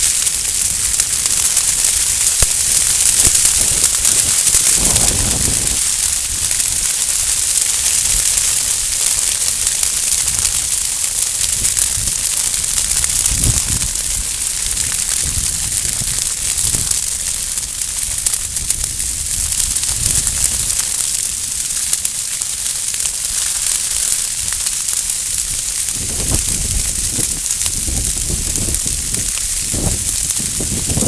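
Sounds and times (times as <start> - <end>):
grass fire crackling hiss: 0.0 - 31.0.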